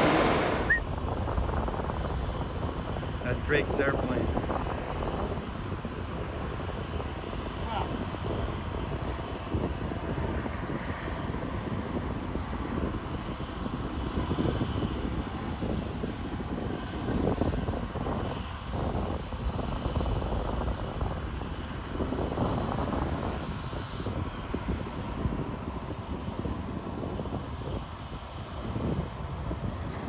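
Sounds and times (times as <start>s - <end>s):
jet aircraft rumble: 0.0s - 30.0s.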